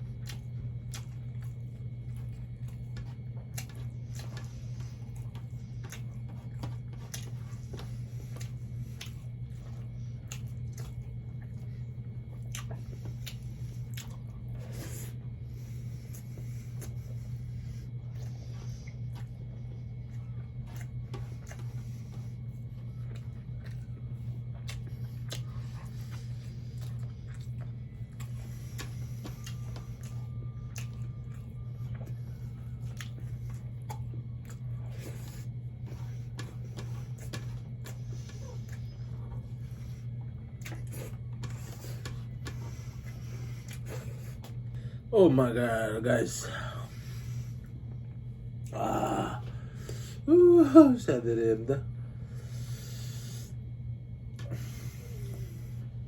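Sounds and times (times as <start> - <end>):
wet chewing and smacking: 0.0 - 45.1, 52.2 - 56.0
steady low hum: 0.0 - 56.0.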